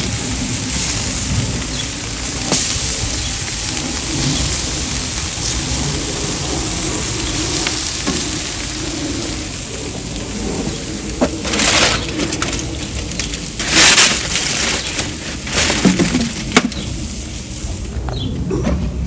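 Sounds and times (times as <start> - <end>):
barbecue grill sizzling: 0.0 - 18.2
low uneven rumble: 0.0 - 19.0.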